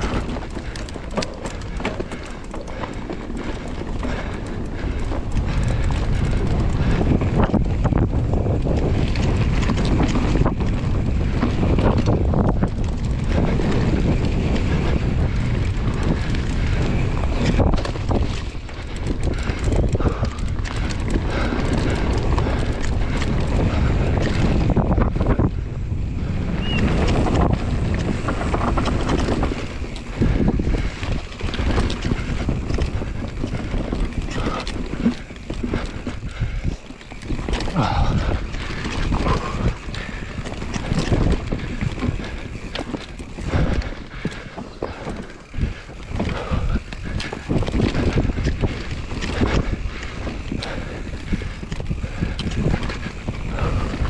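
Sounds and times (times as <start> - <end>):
bike knocks and rattles: 0.0 - 54.0
bike tyre rumble: 0.0 - 54.0
wind buffeting microphone: 0.0 - 54.0.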